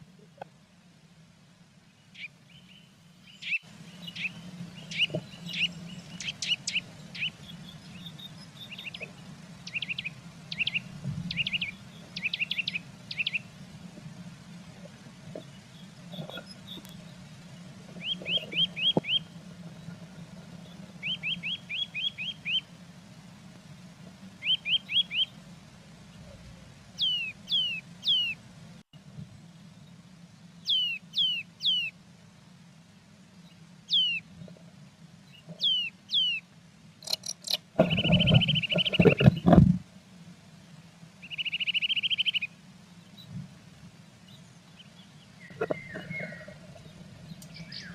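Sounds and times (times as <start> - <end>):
low steady hum: 0.0 - 47.9
small songbirds chirping: 0.0 - 47.9.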